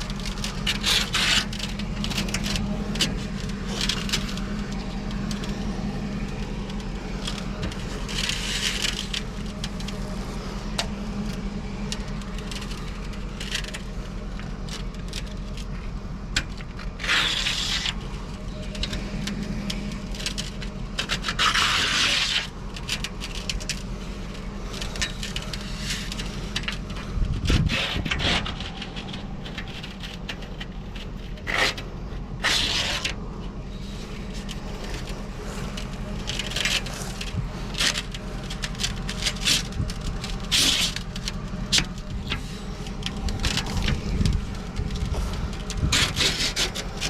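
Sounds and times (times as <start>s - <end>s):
objects scraping and rubbing: 0.0s - 47.0s
steady low hum: 0.0s - 47.0s.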